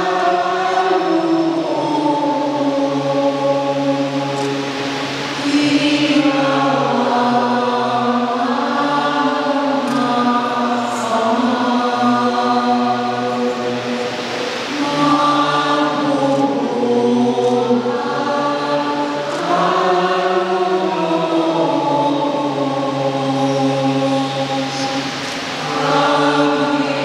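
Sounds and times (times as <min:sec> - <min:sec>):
choir singing a chant: 0:00.0 - 0:27.0.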